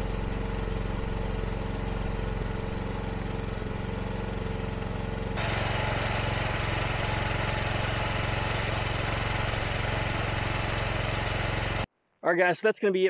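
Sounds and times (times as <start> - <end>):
excavator engine running: 0.0 - 11.9.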